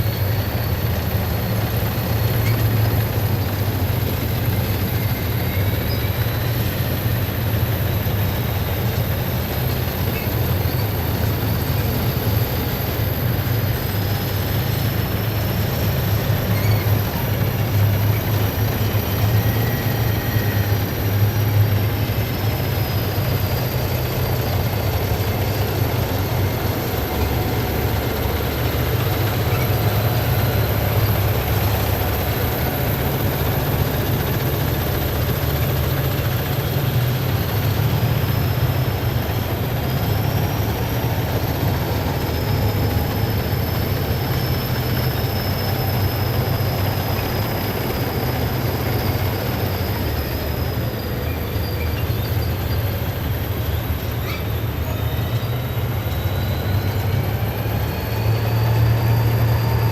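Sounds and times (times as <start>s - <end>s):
heavy vehicles engine rumble: 0.0s - 59.9s
high whine: 0.0s - 59.9s.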